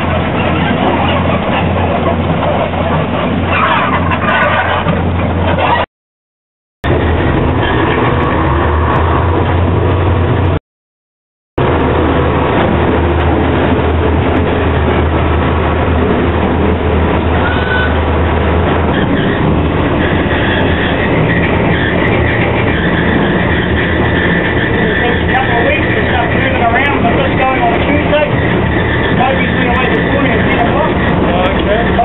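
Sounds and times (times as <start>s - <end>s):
diesel locomotive engine humming: 0.0s - 5.8s, 6.8s - 10.6s, 11.6s - 32.0s.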